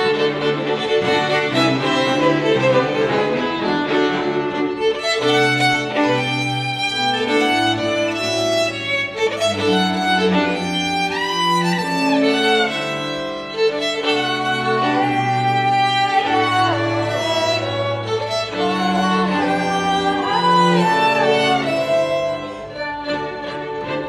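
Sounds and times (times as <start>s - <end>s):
low cello notes: 0.0s - 24.0s
violin melody: 0.0s - 24.0s.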